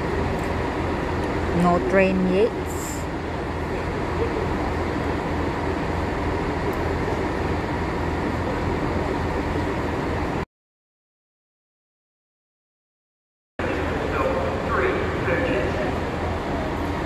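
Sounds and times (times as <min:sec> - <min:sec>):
station concourse rumble and hum: 0:00.0 - 0:10.4, 0:13.6 - 0:17.0.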